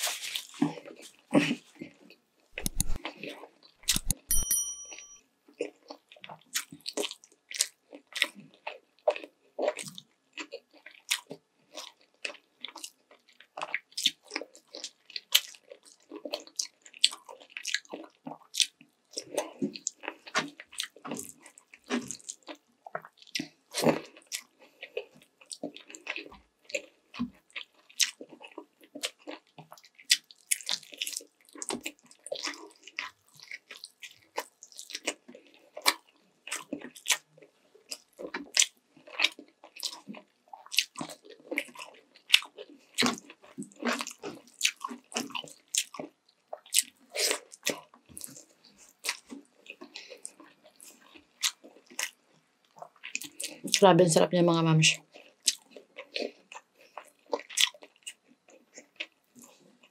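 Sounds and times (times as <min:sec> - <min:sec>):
person chewing with mouth smacks: 0:02.6 - 0:04.4, 0:05.6 - 0:53.8, 0:55.0 - 0:59.9.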